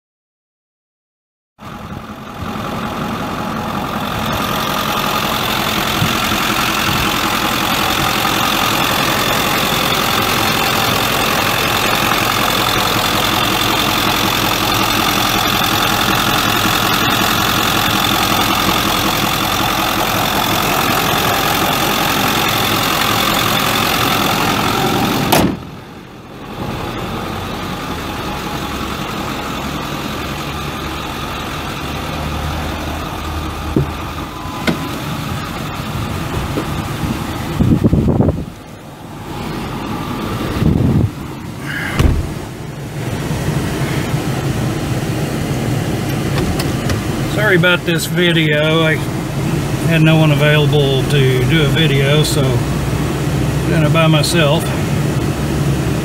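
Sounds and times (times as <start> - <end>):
diesel engine idling: 1.6 - 56.0.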